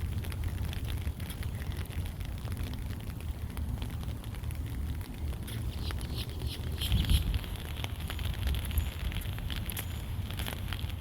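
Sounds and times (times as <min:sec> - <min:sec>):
light rain pattering: 0:00.0 - 0:11.0
steady low rumble: 0:00.0 - 0:11.0.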